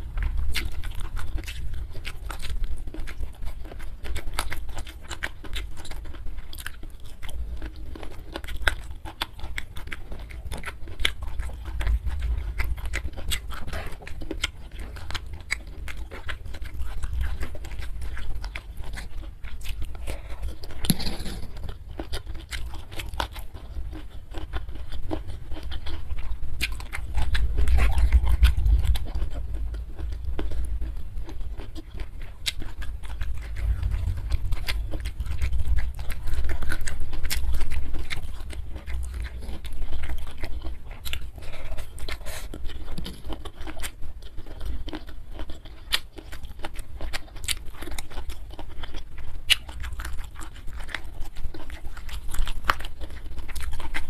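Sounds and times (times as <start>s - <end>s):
steady low rumble: 0.0s - 44.8s
person chewing food: 0.0s - 54.0s.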